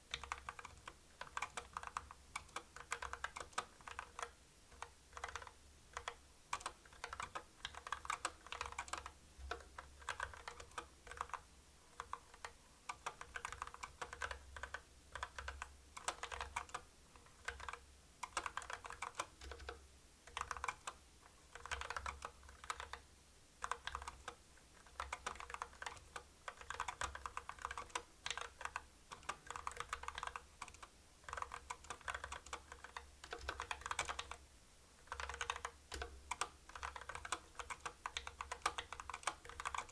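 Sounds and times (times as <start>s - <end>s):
mechanical keyboard typing: 0.1s - 23.0s, 23.6s - 34.4s, 35.0s - 39.9s.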